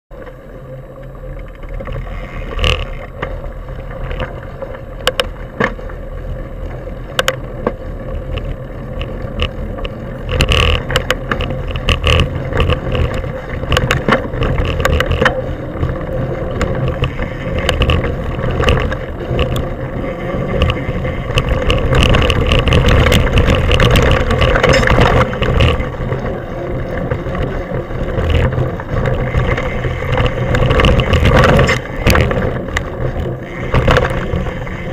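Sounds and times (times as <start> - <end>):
bike rattling over bumps: 0.1 - 34.9
bike rumbling on dirt trail: 0.1 - 34.9.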